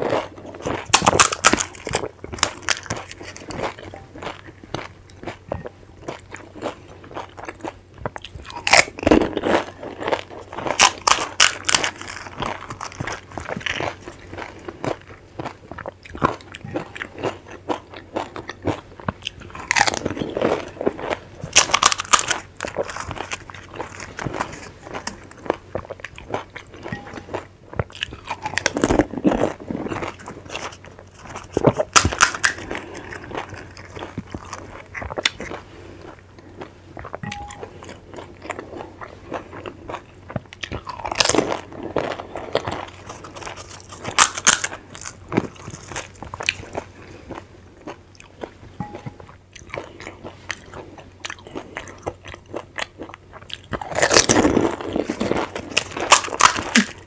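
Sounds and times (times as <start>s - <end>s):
crunching crisp shells: 0.0s - 5.3s, 8.4s - 15.1s, 16.1s - 36.1s, 39.4s - 50.8s, 51.4s - 57.0s.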